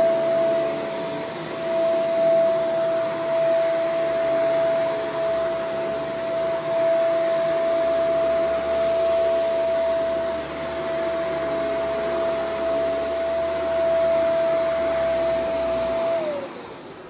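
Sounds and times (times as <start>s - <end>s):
vacuum cleaner running over carpet: 0.0s - 17.0s.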